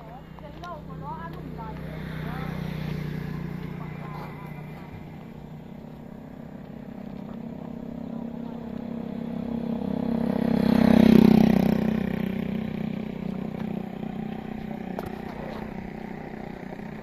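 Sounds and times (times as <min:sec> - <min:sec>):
vehicle engine passing by: 0:00.0 - 0:17.0.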